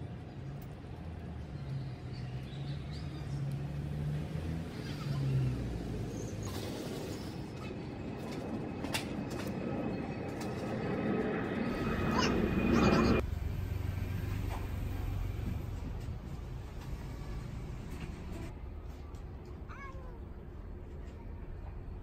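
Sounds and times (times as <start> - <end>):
low engine hum: 0.1 - 19.5.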